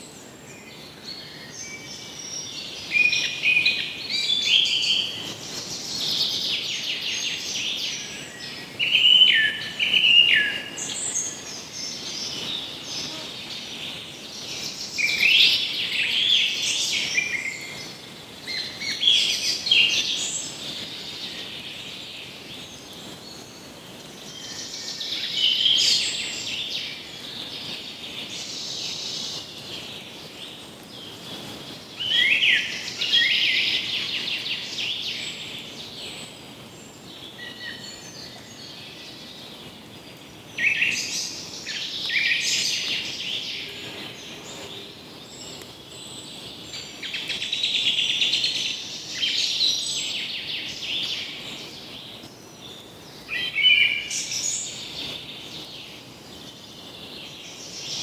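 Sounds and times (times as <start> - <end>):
small birds singing: 0.0 - 58.0
steady background hiss: 0.0 - 58.0.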